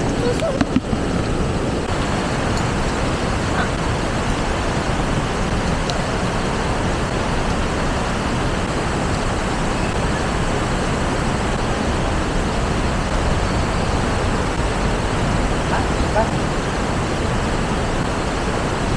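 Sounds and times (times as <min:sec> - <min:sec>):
river water rushing over rocks: 0:00.0 - 0:18.9.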